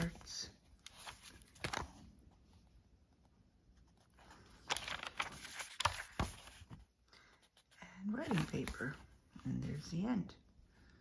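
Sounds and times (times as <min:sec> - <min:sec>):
paper pages rustling: 0:00.0 - 0:09.8.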